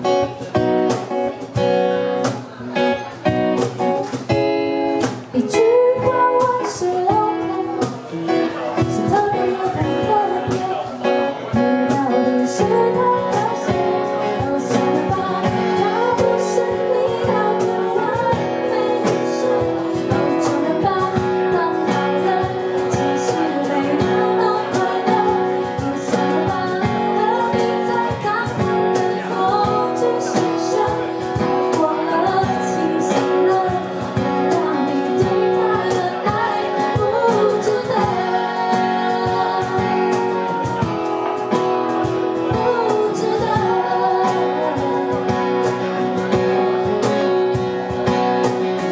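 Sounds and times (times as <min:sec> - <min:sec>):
guitar: 0:00.0 - 0:48.9
steady drum beat: 0:00.0 - 0:48.9
person singing: 0:05.3 - 0:47.2.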